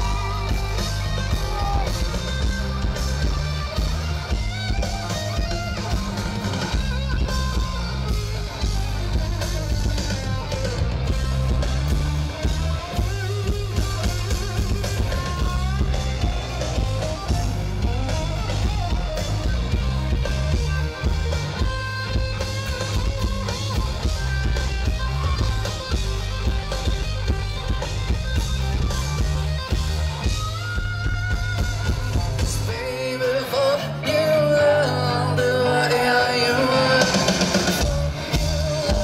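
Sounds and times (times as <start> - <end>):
bass guitar: 0.0 - 39.0
drum kit: 0.0 - 39.0
electric guitar: 0.0 - 39.0.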